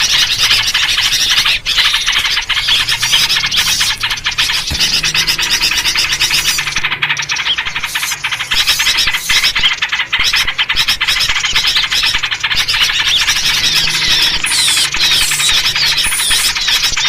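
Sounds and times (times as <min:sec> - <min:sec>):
downslurred bird calls: 0:00.0 - 0:17.0
small birds chattering and chirping: 0:00.0 - 0:17.0.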